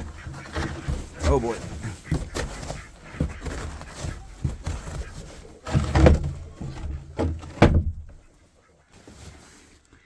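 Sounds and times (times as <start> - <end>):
wooden door scraping thuds: 0.0 - 8.3.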